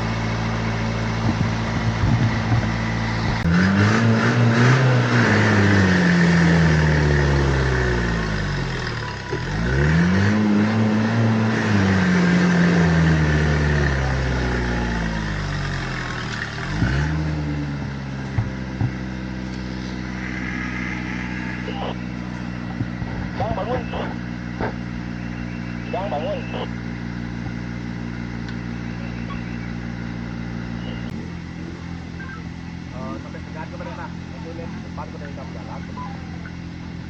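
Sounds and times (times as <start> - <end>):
engine idling and revving: 0.0 - 37.0.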